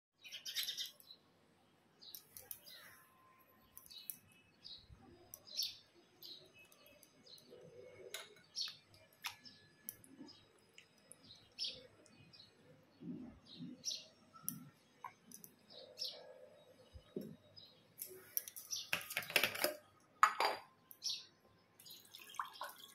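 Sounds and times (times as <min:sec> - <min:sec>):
small birds chirping: 0:00.2 - 0:22.9.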